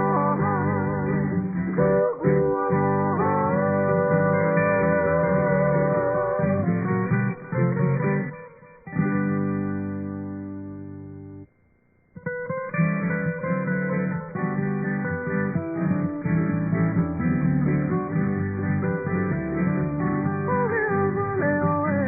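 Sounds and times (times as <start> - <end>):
acoustic guitar music: 0.0 - 11.6, 12.2 - 22.0.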